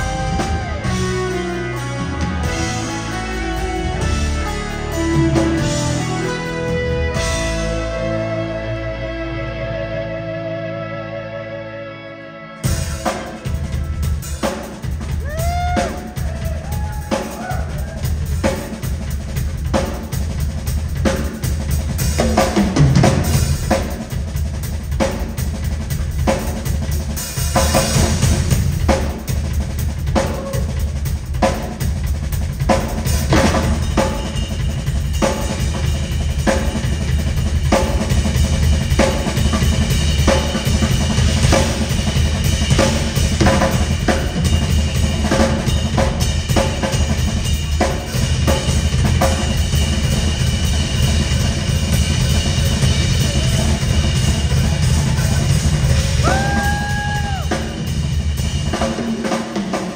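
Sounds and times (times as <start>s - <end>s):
rock drum solo: 0.0s - 8.8s, 12.6s - 59.9s.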